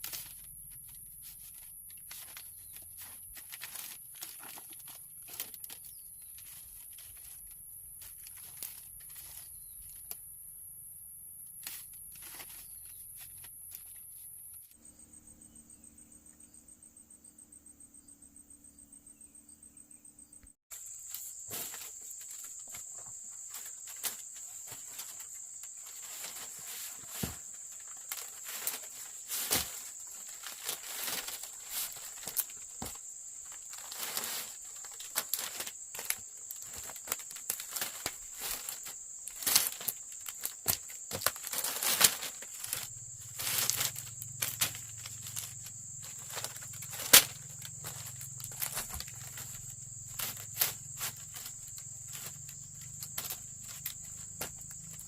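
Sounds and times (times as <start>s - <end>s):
handling clicks and rustles: 0.0s - 10.2s, 11.5s - 14.8s, 20.8s - 55.0s
pulsing insect chorus: 0.0s - 55.0s.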